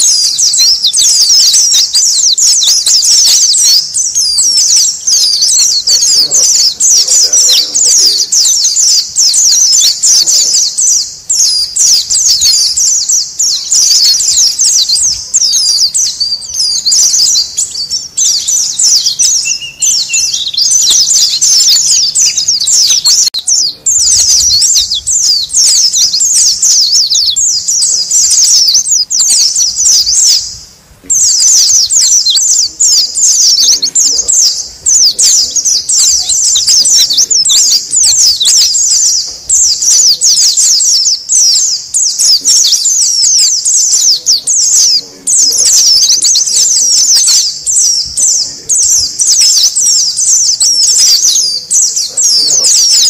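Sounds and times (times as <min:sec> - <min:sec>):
flock of birds chattering: 0:00.0 - 0:53.0.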